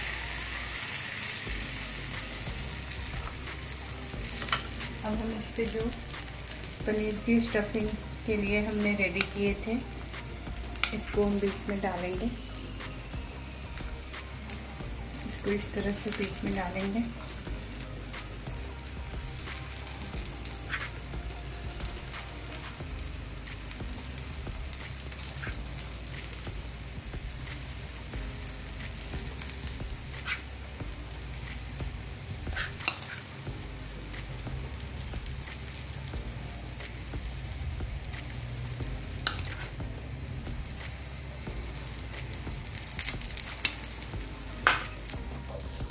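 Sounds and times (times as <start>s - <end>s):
batter sizzling in oil: 0.0s - 45.9s.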